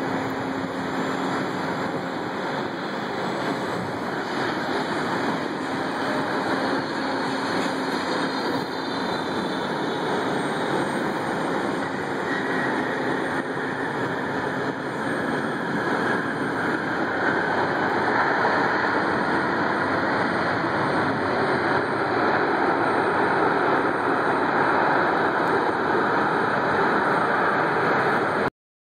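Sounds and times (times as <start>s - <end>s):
jet engine noise: 0.0s - 28.5s.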